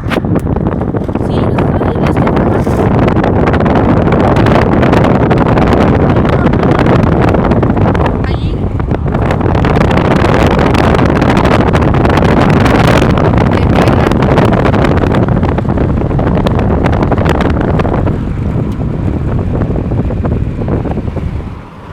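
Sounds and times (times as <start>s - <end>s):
moving vehicle rumble: 0.0s - 21.9s
wind buffeting microphone: 0.0s - 21.9s.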